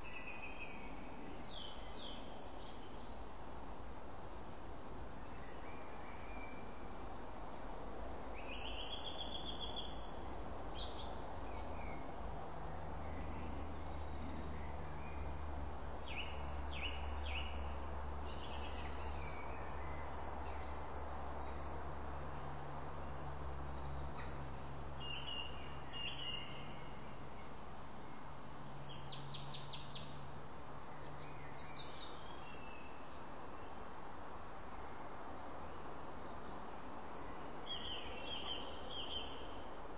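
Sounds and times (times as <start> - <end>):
small birds chirping: 0.0 - 3.6, 5.2 - 21.7, 22.4 - 39.9
steady outdoor hiss: 0.0 - 39.9.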